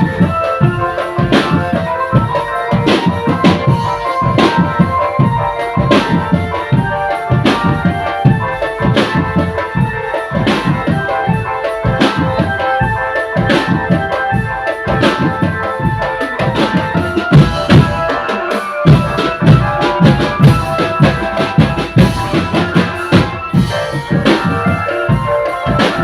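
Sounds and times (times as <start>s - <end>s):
bass and snare drumming: 0.0s - 26.0s
repeating melody: 0.0s - 26.0s.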